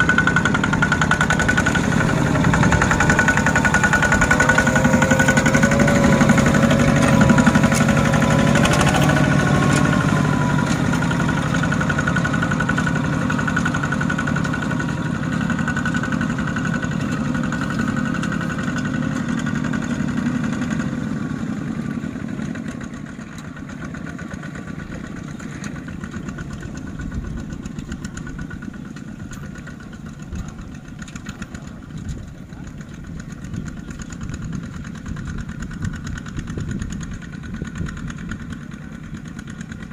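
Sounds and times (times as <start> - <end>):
walking tractor diesel engine running: 0.0 - 39.9.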